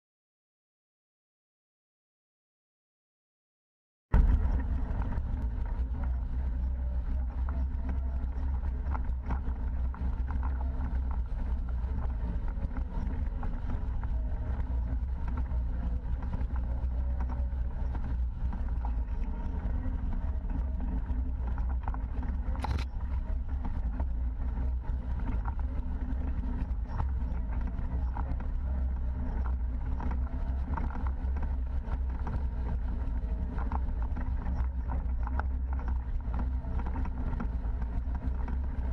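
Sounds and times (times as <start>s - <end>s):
off-road vehicle engine droning: 4.1s - 38.9s.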